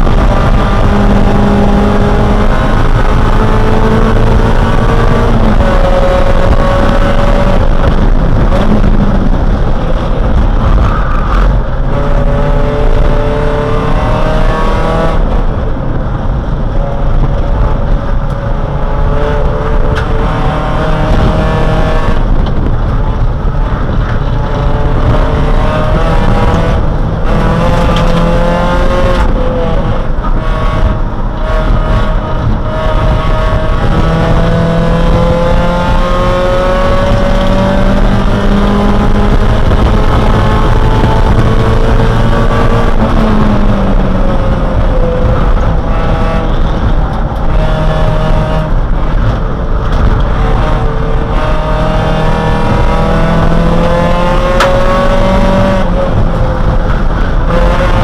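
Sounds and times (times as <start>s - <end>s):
race car engine revving: 0.0s - 58.0s
road and wind rumble: 0.0s - 58.0s.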